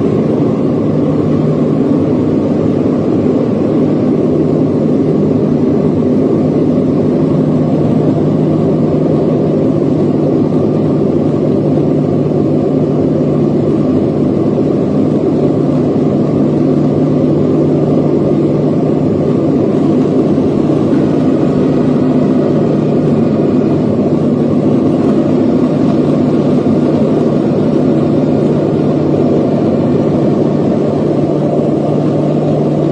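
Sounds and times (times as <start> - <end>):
airplane engines droning: 0.0 - 32.9.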